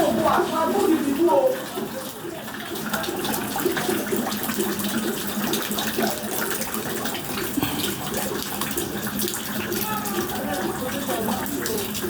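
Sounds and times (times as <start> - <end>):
torrential rain pouring: 0.0 - 12.0
water splashing and dripping: 0.0 - 12.0.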